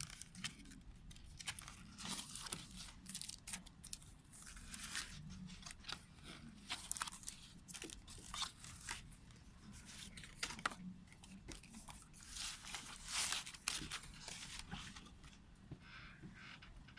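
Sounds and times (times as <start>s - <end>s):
paper and plastic rustling: 0.0s - 15.4s.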